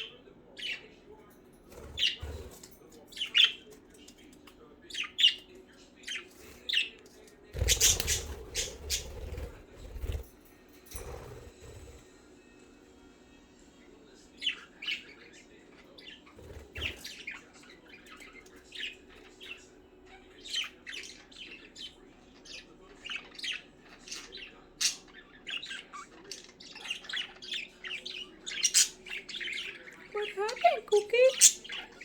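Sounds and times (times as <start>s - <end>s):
budgerigars chirping and squawking: 0.0s - 10.3s, 14.2s - 32.0s.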